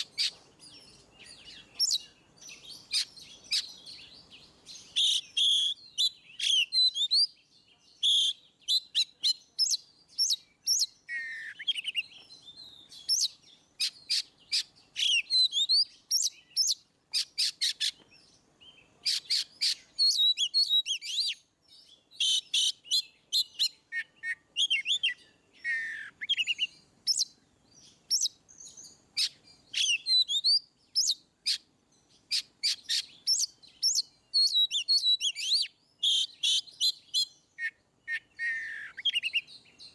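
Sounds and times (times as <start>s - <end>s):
bird singing chips and whistles: 0.0s - 7.4s, 8.0s - 18.1s, 19.0s - 21.4s, 22.2s - 31.6s, 32.3s - 39.9s.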